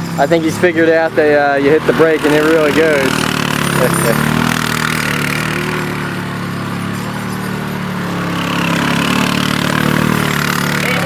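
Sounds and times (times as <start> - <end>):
quad engine running: 0.0 - 11.0.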